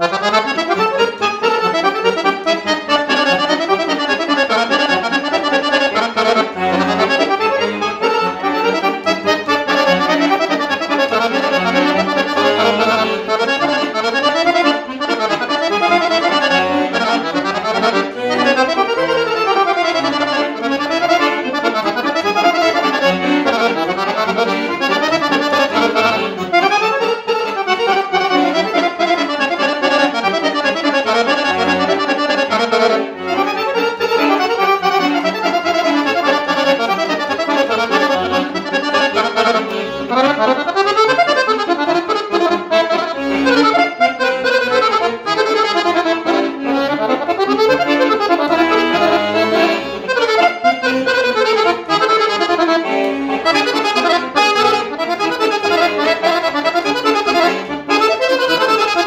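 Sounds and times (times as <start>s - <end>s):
accordion dance tune: 0.0s - 59.0s.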